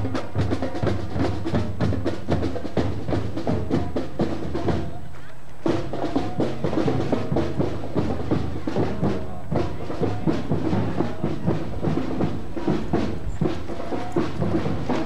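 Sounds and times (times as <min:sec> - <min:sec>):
marching band drums: 0:00.0 - 0:15.0
wind and brass notes: 0:00.0 - 0:15.0.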